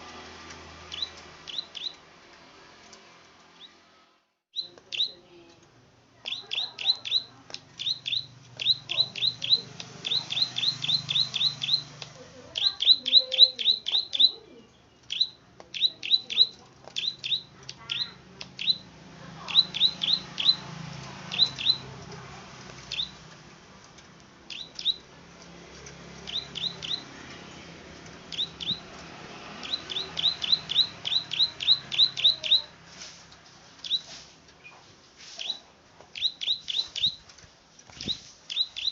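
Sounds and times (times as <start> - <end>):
bird clicking song: 0.8 - 2.0, 4.6 - 25.1, 25.8 - 27.2, 28.0 - 32.7, 33.8 - 34.8, 35.4 - 37.3, 38.0 - 38.9.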